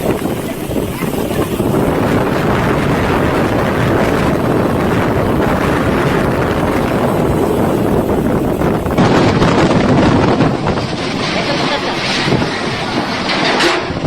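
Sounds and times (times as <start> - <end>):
floodwater torrent roaring: 0.0 - 14.0
wind on microphone: 0.0 - 14.0.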